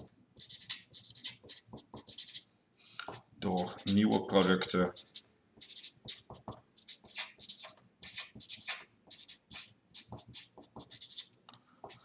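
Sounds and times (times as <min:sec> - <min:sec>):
marker scratching on paper: 0:00.0 - 0:02.5, 0:03.1 - 0:12.0.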